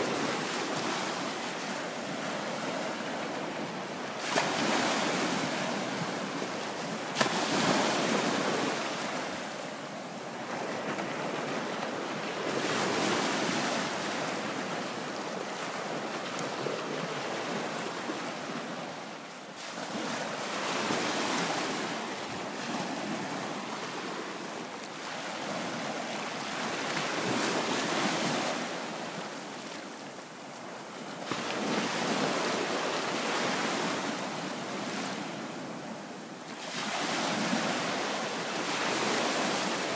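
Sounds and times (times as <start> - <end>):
waves washing over sandy beach: 0.0 - 39.9.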